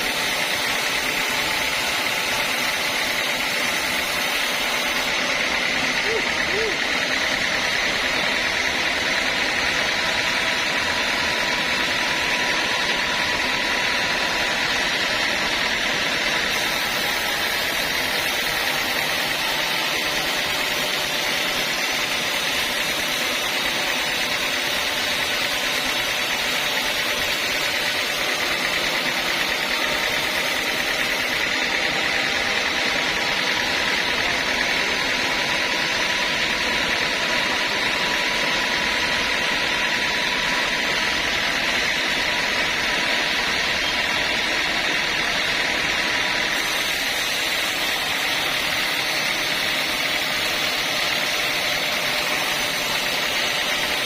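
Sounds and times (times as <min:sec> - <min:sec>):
sawmill machinery running: 0:00.0 - 0:54.0
steady high whine: 0:00.0 - 0:54.0.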